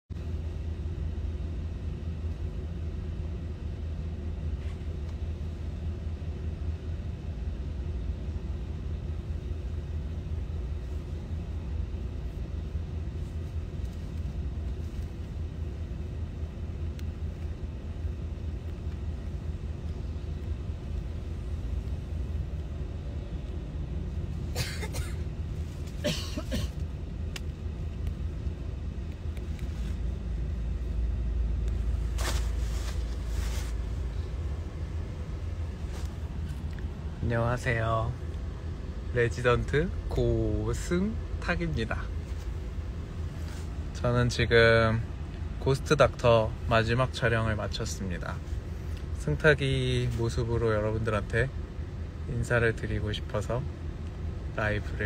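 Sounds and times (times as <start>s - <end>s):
car cabin rumble: 0.2s - 55.0s.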